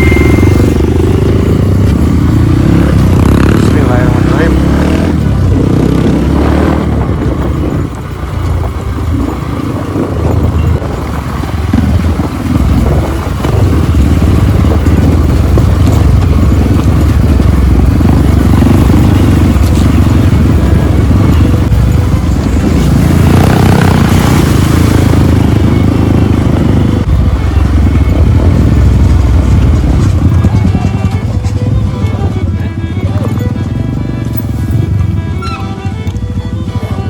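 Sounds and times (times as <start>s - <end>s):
motorcycle engine riding: 0.0s - 37.0s.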